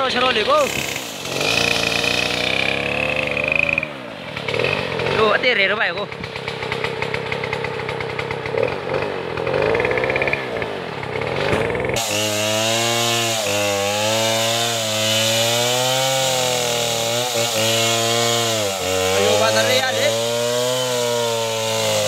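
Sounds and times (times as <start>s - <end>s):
chainsaw cutting tree trunk: 0.0s - 22.0s.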